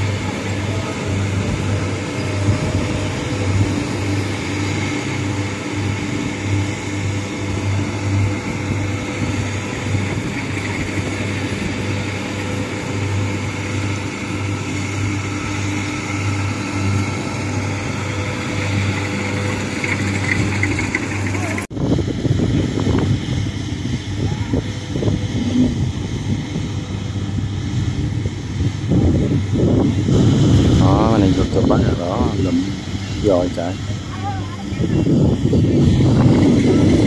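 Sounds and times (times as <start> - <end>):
diesel engine droning: 0.0 - 37.0
threshing machinery whirring: 0.0 - 37.0.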